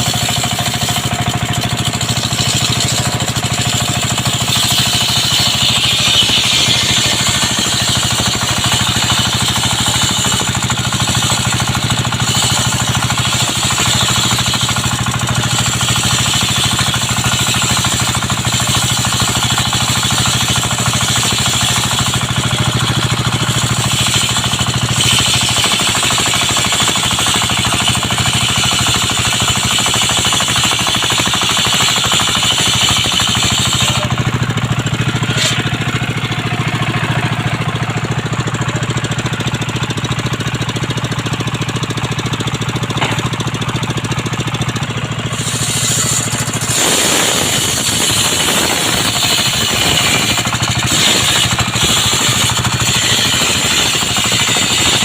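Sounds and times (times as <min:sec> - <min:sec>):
engine drone: 0:00.0 - 0:55.0
saw blade whine cutting wood: 0:00.0 - 0:55.0.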